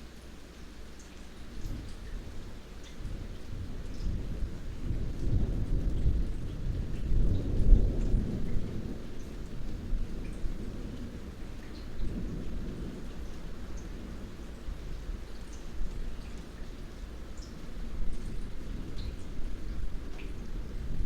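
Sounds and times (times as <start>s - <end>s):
light rain: 0.0s - 21.0s
water drips: 0.1s - 21.0s
distant thunder rumbling: 3.0s - 21.0s.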